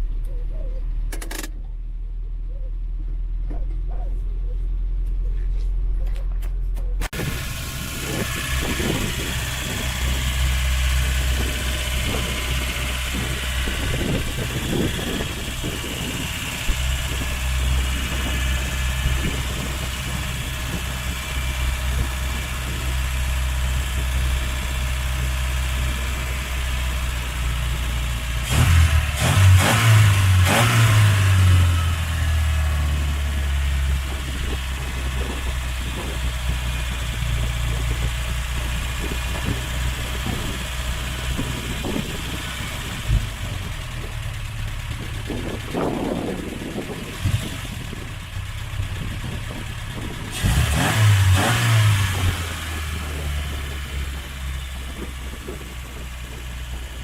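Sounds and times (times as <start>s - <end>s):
car engine running: 0.0s - 57.0s
engine knocks: 6.1s - 57.0s.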